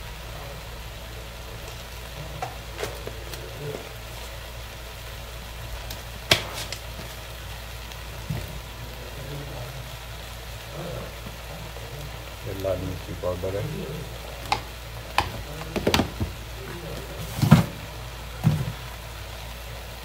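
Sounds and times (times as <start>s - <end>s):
food frying sizzle: 0.0s - 20.0s.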